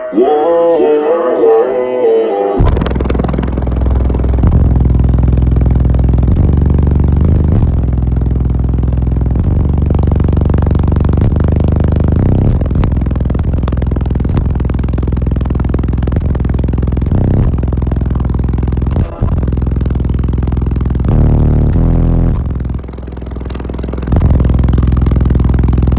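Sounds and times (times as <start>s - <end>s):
subwoofers playing deep bass: 2.6s - 25.9s.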